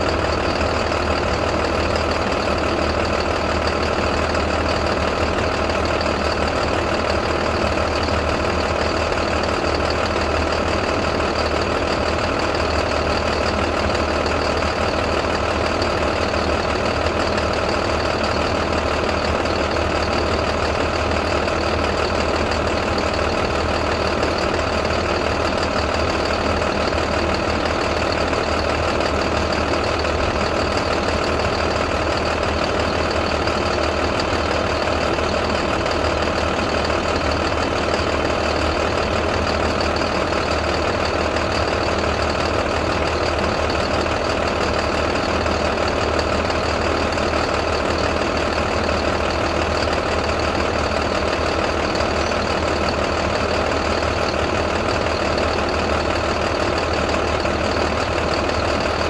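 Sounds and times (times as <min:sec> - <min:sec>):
diesel bus engine idling: 0:00.0 - 0:59.0.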